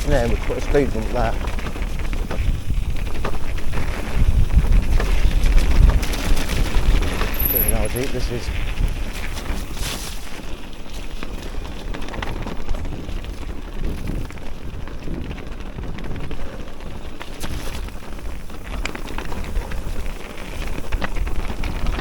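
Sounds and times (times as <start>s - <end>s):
tyres crunching over rough ground: 0.0s - 22.0s
wind buffeting microphone: 0.0s - 22.0s.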